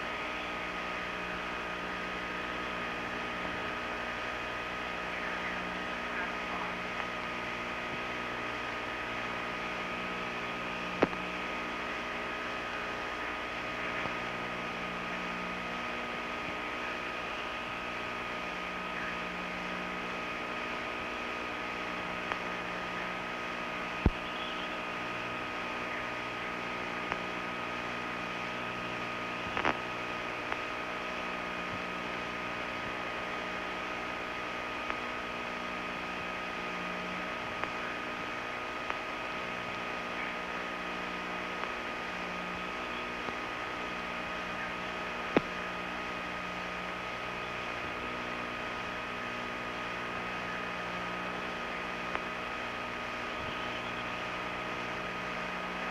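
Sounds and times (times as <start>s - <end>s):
steady hum and hiss: 0.0s - 55.9s.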